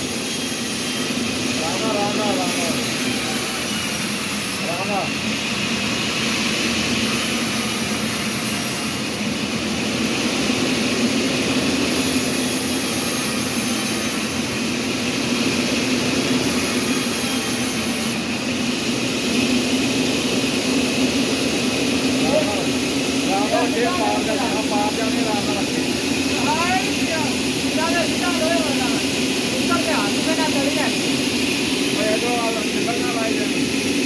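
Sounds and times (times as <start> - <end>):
sawmill machinery hum: 0.0 - 34.0.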